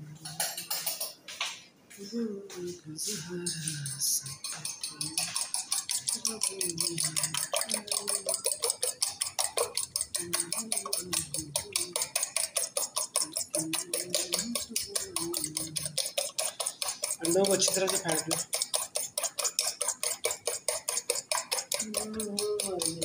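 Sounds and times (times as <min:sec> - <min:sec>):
fork beating eggs in metal bowl: 0:00.2 - 0:01.2, 0:02.6 - 0:23.0.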